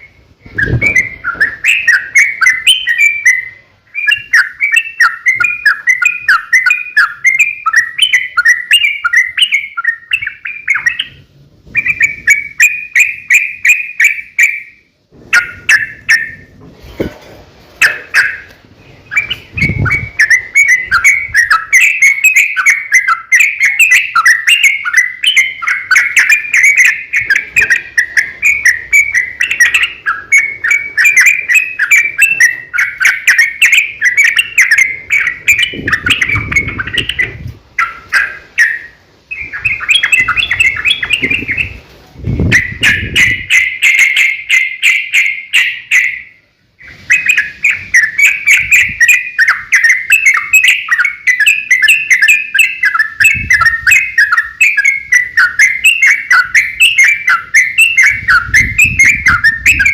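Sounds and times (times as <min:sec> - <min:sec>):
bird singing chattering phrases: 0:00.0 - 0:16.5, 0:17.8 - 0:59.9.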